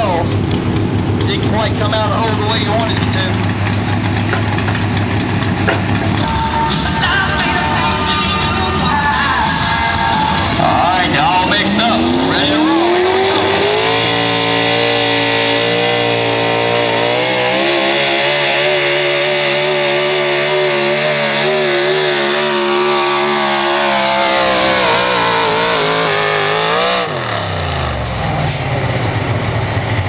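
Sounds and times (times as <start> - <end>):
racing truck engine at full throttle: 0.0 - 30.0.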